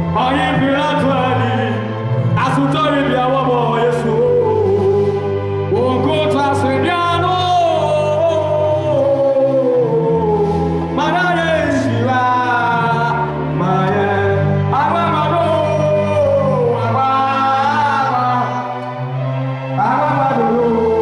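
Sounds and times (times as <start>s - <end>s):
man singing gospel song: 0.0s - 5.1s, 5.7s - 18.7s, 19.7s - 21.0s.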